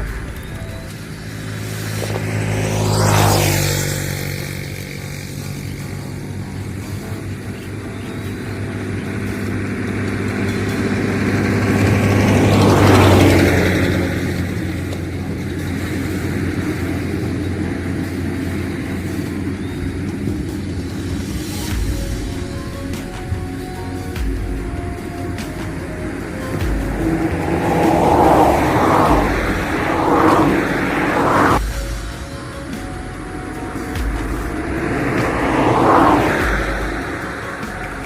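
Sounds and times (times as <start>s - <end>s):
low engine hum: 0.0s - 38.0s
vehicles passing: 0.0s - 38.0s.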